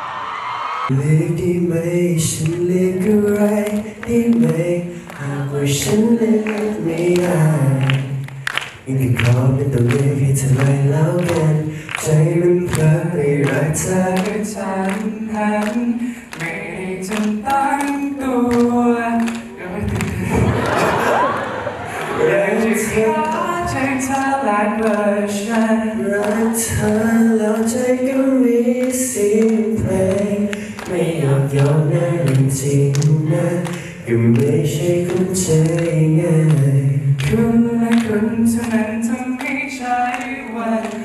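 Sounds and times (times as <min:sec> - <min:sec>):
men singing unaccompanied: 0:00.9 - 0:08.1, 0:08.9 - 0:20.5, 0:22.0 - 0:41.0.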